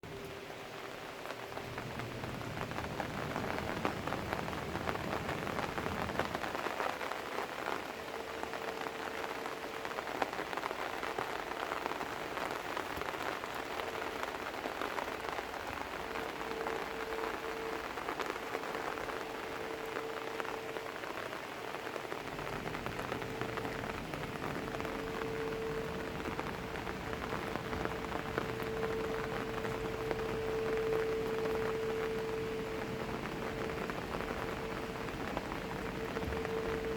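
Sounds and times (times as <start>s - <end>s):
faint steady hum: 0.0s - 36.9s
rain pattering: 0.0s - 36.9s.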